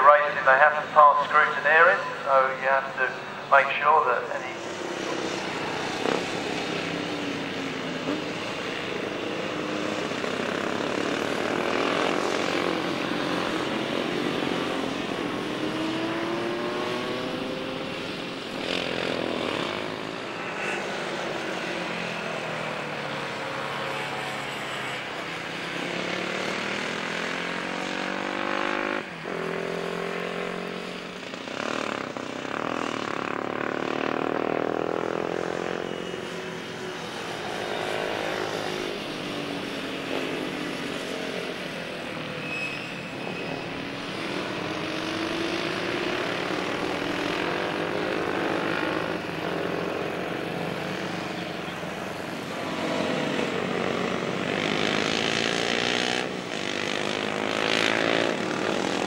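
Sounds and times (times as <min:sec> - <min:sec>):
motorcycles passing at speed: 0:00.0 - 0:59.0.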